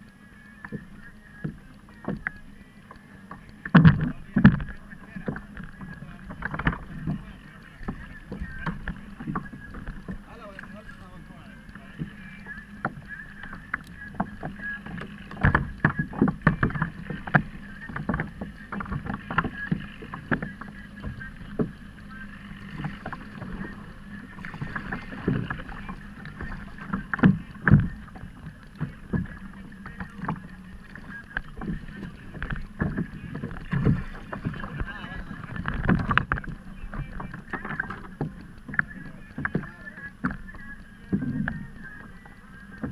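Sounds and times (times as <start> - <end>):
faint steady hum: 0.0 - 42.9
water slapping against kayak hull: 0.0 - 42.9.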